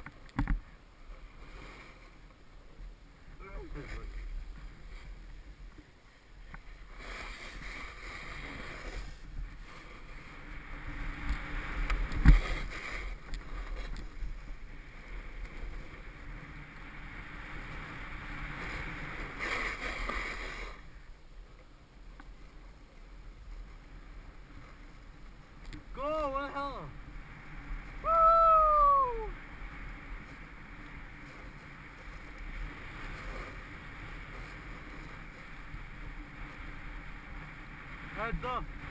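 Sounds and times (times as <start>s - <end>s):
low wind rumble: 0.0s - 38.9s
snowboard scraping on snow: 0.9s - 21.2s, 22.0s - 28.2s, 29.1s - 38.9s.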